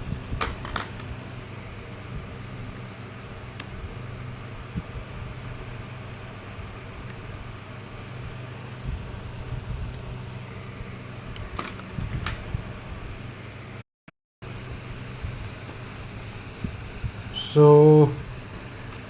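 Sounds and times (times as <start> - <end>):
fan-like mechanical hum: 0.0 - 13.8, 14.4 - 19.0.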